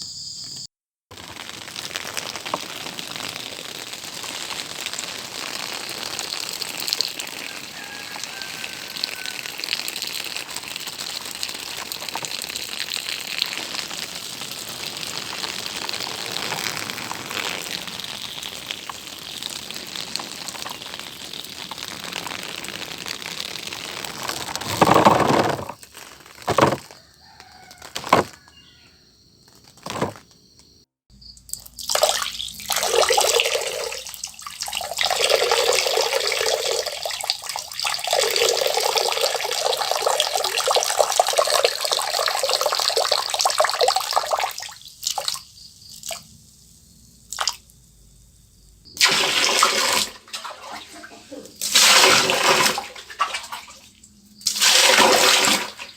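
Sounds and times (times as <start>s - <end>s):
person urinating: 1.1s - 28.6s, 29.6s - 30.2s, 31.9s - 45.4s, 49.0s - 53.6s, 54.4s - 55.9s.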